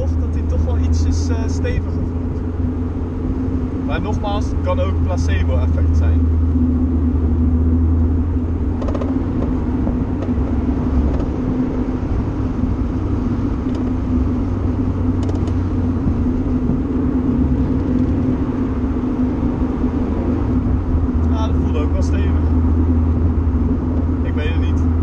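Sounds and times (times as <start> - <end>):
car engine hum: 0.0 - 25.0
road and wind noise: 0.0 - 25.0.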